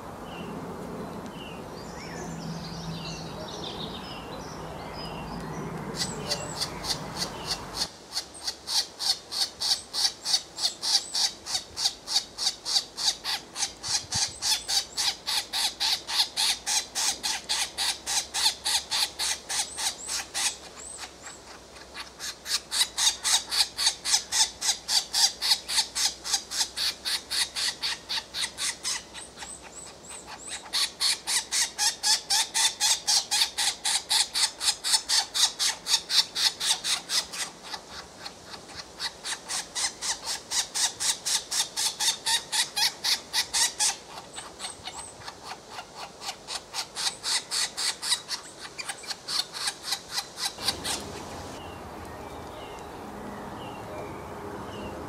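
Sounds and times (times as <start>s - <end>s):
nestlings harsh rasping calls: 5.9s - 51.6s.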